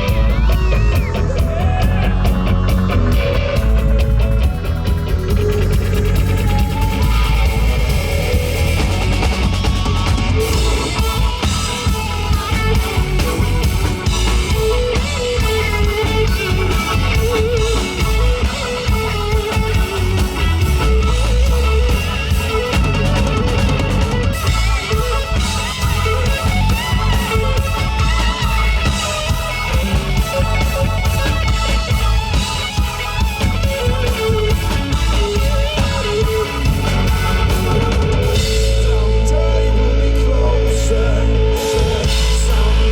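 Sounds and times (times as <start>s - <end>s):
bass guitar: 0.0s - 42.9s
drum kit: 0.0s - 42.9s
electric guitar lead: 0.0s - 42.9s.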